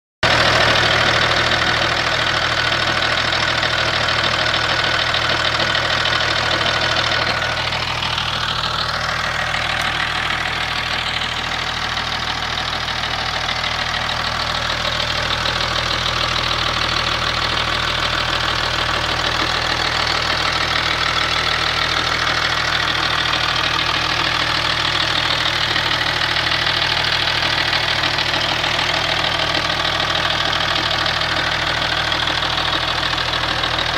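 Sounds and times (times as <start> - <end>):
diesel engine running with ticking: 0.2 - 33.9.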